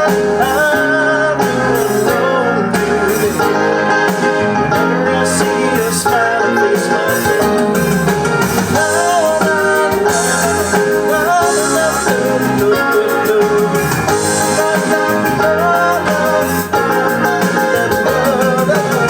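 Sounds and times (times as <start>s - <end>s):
piano playing: 0.0s - 19.0s
pop-rock backing track: 0.0s - 19.0s.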